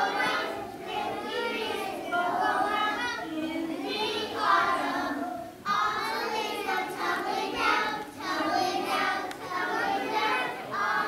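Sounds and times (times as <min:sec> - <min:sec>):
children singing: 0:00.0 - 0:11.0.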